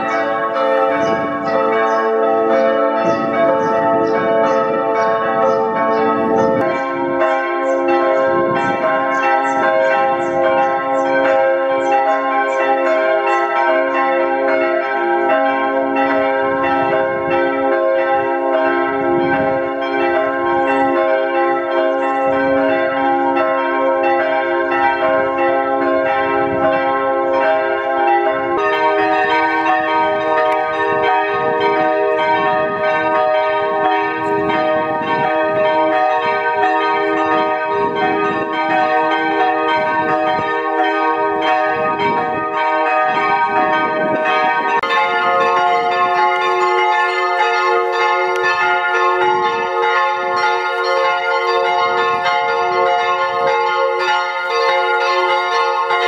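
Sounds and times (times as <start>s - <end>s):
sped-up church bells ringing: 0.0s - 56.0s.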